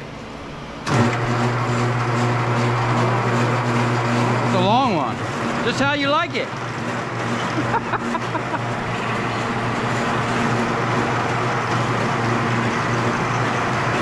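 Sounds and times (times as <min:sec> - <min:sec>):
wire-stripping machine motor hum: 0:00.0 - 0:14.0
cable rushing through machine: 0:00.8 - 0:14.0.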